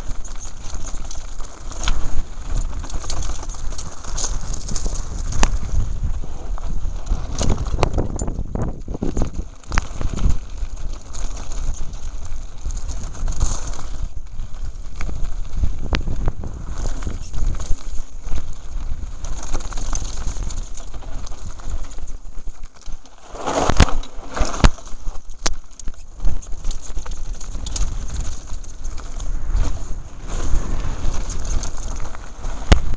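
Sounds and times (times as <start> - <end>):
bike clattering over rocky gravel: 0.0 - 32.9
wind on microphone: 0.0 - 32.9.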